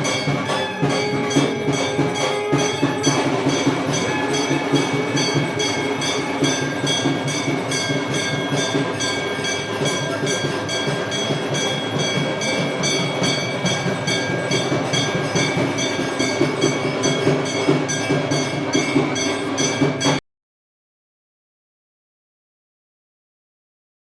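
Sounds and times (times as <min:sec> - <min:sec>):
bells and hand cymbals clanging: 0:00.0 - 0:20.2
steady ringing of bells: 0:00.0 - 0:20.2.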